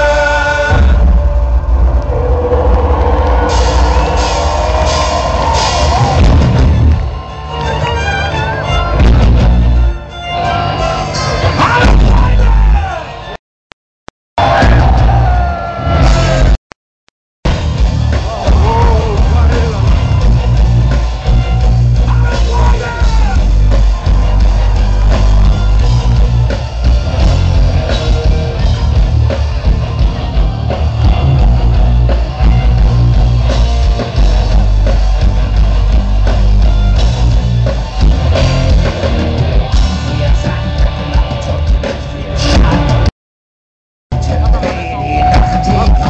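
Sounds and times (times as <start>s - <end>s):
loud live metal music: 0.0s - 13.4s, 14.4s - 16.6s, 17.5s - 43.1s, 44.1s - 46.0s.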